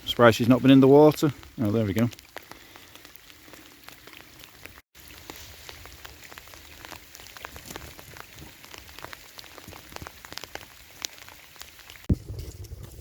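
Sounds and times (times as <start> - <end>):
raindrops ticking: 0.0 - 12.1
rainfall hiss: 0.0 - 12.1.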